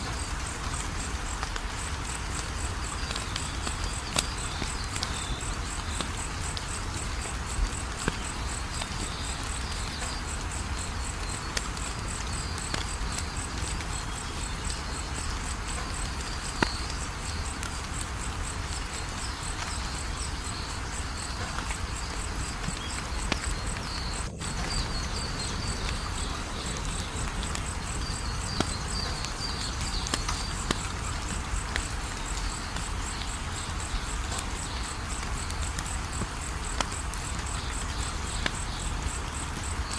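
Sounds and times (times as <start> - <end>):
cricket trilling: 0.0 - 39.9
insect chirping: 0.0 - 39.9
wood fire crackling: 0.0 - 39.9.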